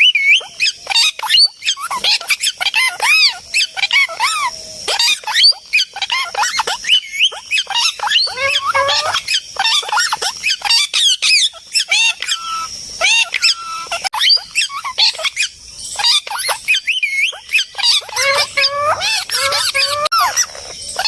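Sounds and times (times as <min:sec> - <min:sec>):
parrots squawking and chirping: 0:00.0 - 0:21.0.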